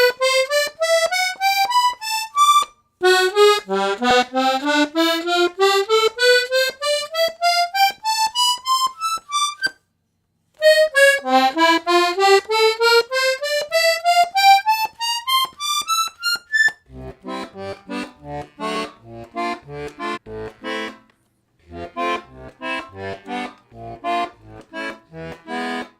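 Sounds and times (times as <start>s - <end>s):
accordion bass and chord stabs: 0.0s - 9.7s, 10.6s - 25.9s
accordion single note runs: 0.0s - 9.8s, 10.6s - 25.9s.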